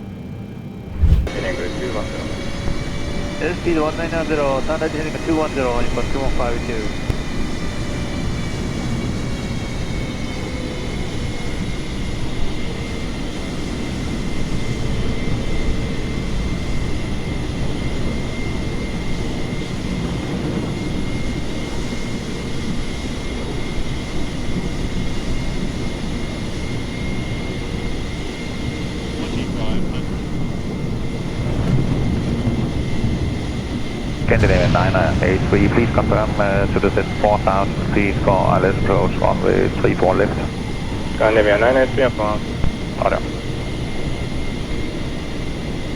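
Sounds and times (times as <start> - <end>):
jet airliner engines running: 0.0 - 45.9.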